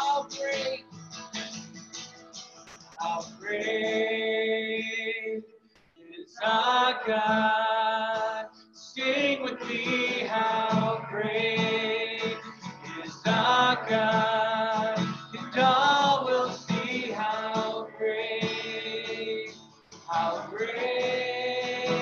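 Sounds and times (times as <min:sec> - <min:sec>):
man singing: 0:00.0 - 0:00.9, 0:03.0 - 0:05.4, 0:06.0 - 0:22.0
acoustic guitar strumming: 0:00.0 - 0:05.6, 0:06.9 - 0:22.0.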